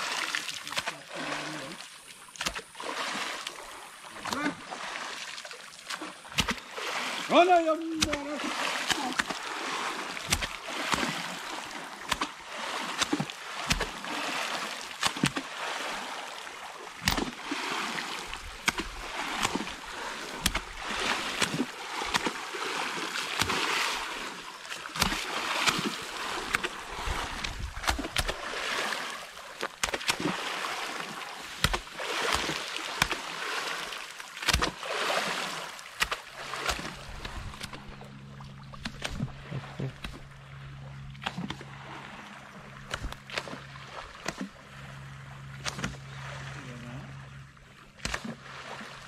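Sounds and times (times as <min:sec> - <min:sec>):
water splashing and sloshing: 0:00.0 - 0:49.0.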